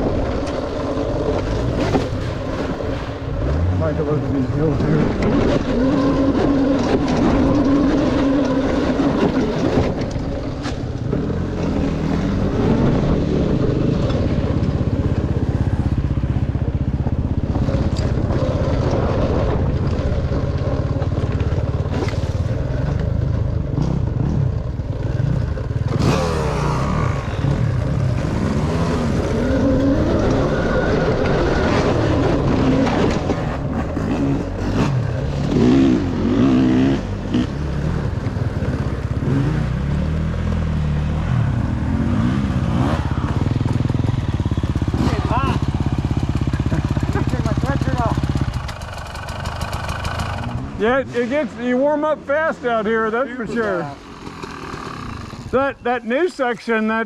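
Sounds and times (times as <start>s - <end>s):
dirt bike engine revving: 0.1s - 57.0s.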